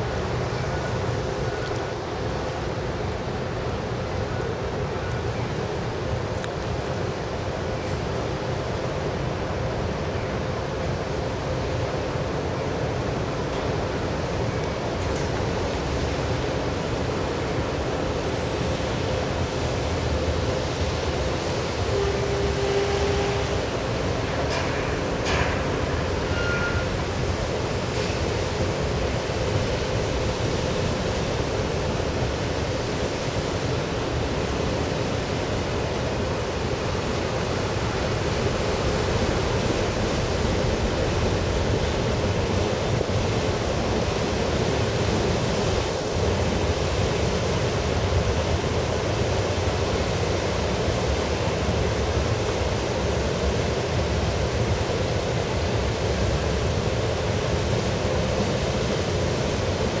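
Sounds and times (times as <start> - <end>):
water churned by ferry propellers: 0.0 - 60.0.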